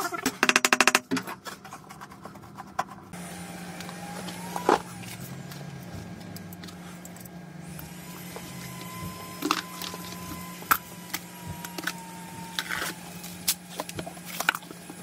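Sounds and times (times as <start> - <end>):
low mechanical hum: 1.1 - 15.0.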